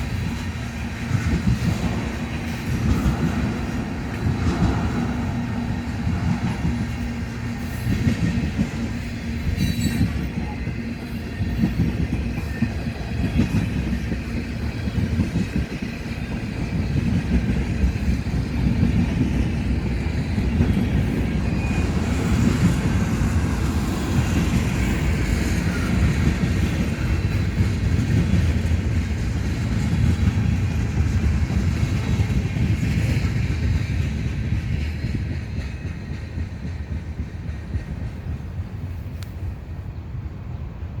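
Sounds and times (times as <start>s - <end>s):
train rumbling along track: 0.0s - 41.0s.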